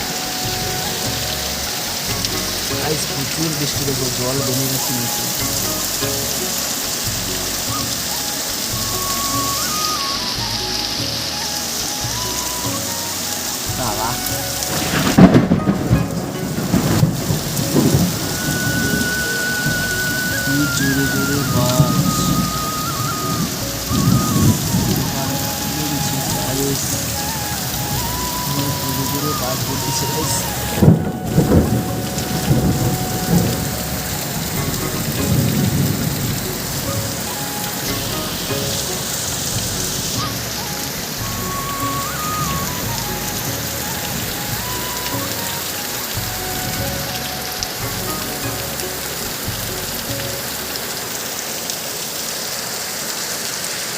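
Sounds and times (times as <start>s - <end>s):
faint melody of held notes: 0.0s - 52.8s
heavy rain pouring: 0.0s - 53.9s.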